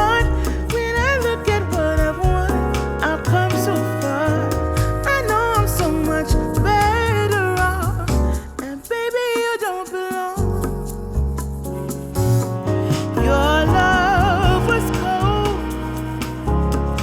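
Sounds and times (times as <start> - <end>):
soul song with sung vocal: 0.0 - 11.1, 12.6 - 17.0.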